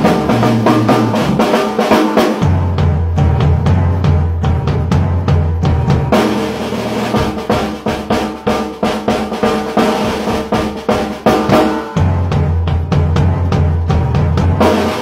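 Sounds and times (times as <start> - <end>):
drum kit playing fast pattern: 0.0 - 15.0.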